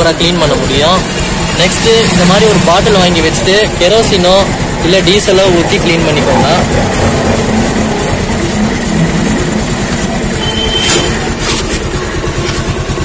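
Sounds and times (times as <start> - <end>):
single-cylinder engine running: 0.0 - 13.0.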